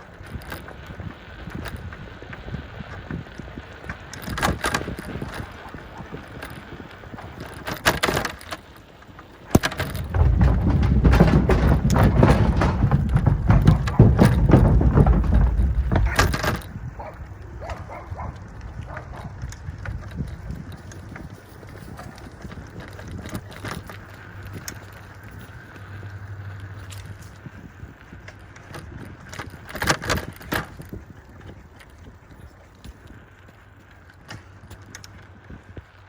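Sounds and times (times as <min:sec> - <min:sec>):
bicycle knocks and rattles: 0:00.0 - 0:36.0
wind buffeting microphone: 0:00.0 - 0:36.0.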